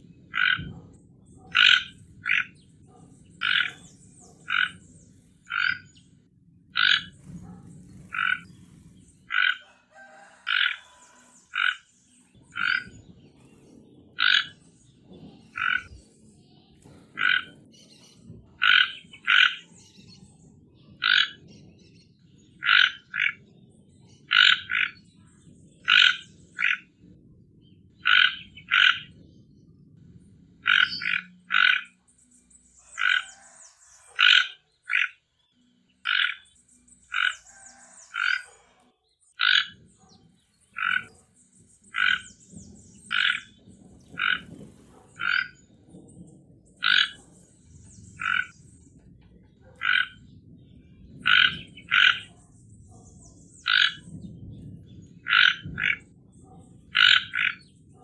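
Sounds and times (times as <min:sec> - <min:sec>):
toucan croaking calls: 0:00.0 - 0:16.1, 0:16.8 - 0:21.7, 0:22.4 - 0:27.1, 0:27.9 - 0:29.3, 0:30.6 - 0:54.2, 0:55.1 - 0:58.0.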